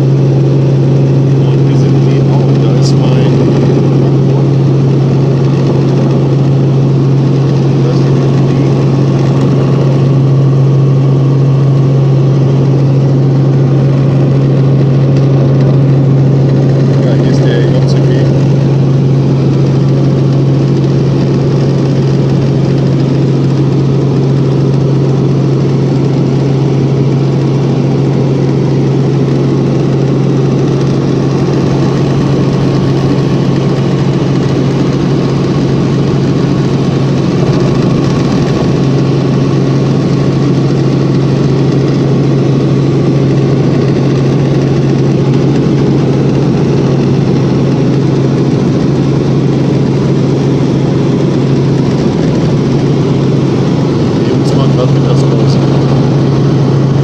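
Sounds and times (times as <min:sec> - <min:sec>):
helicopter cabin engine hum: 0:00.0 - 0:57.0.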